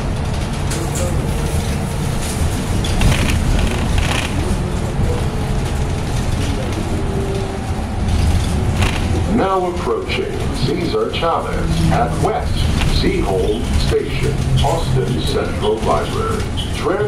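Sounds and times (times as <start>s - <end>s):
road and tyre rumble: 0.0s - 17.0s
interior rattles: 0.1s - 17.0s.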